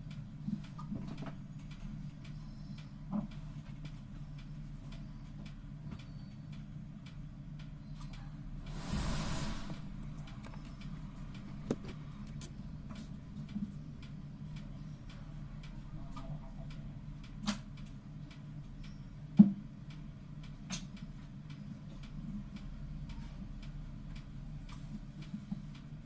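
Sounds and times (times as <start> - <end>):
light ticking and clicks: 0.0 - 8.7, 10.0 - 26.0.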